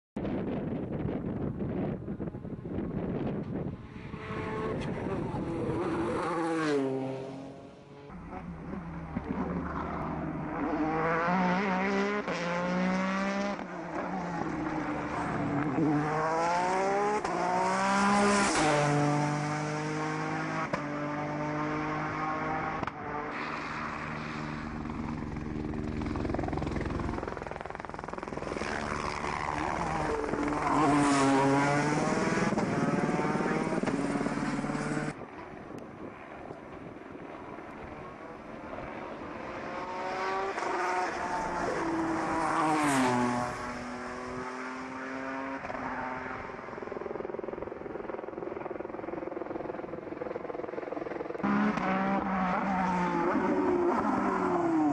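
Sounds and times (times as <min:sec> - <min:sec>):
race car engine at full throttle: 0:00.2 - 0:54.9.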